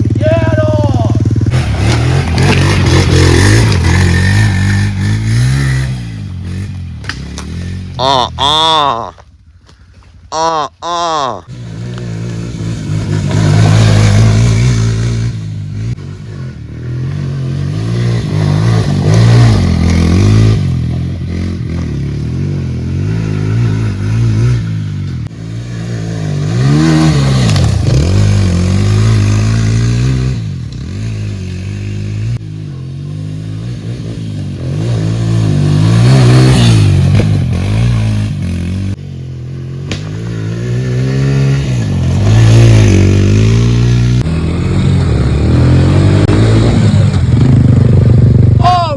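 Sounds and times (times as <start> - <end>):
pit bike engine revving: 0.0 - 9.2, 10.4 - 48.7.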